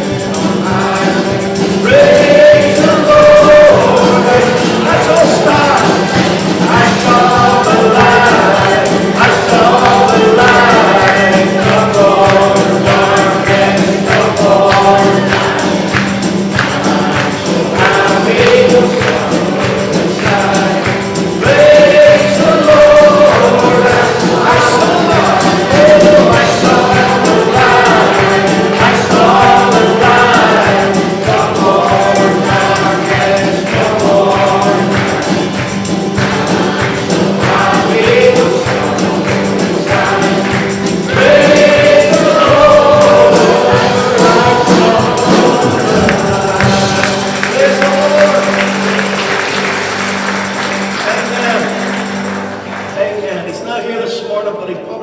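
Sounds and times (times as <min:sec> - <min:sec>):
percussion keeping the beat: 0:00.0 - 0:53.9
choir singing gospel song: 0:00.0 - 0:54.8
band playing: 0:00.0 - 0:55.0.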